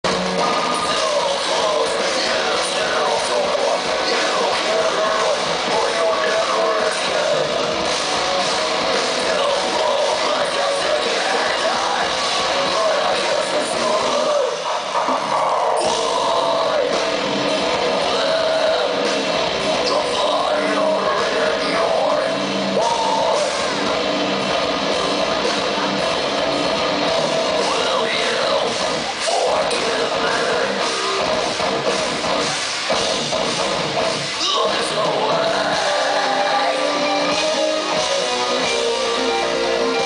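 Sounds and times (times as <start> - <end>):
drum kit: 0.0 - 40.0
electric guitars: 0.0 - 40.0
sung and shouted vocals: 0.1 - 31.4, 34.3 - 40.0.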